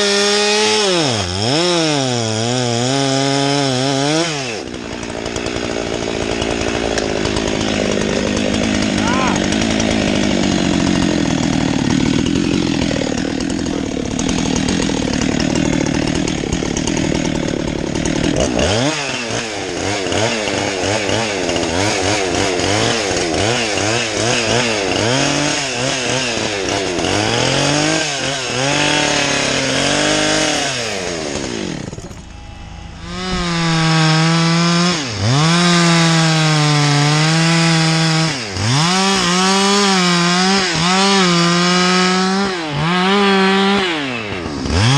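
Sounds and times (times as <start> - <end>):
chainsaw engine revving: 0.0 - 44.9.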